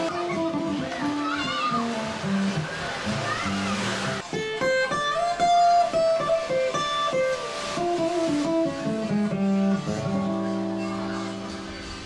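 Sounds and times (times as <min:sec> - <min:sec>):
acoustic guitar plucking: 0:00.0 - 0:12.0.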